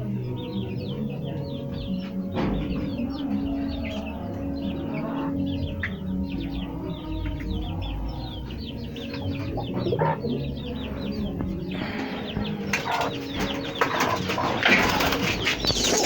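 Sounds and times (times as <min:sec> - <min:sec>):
birds chirping rapidly: 0:00.0 - 0:16.0.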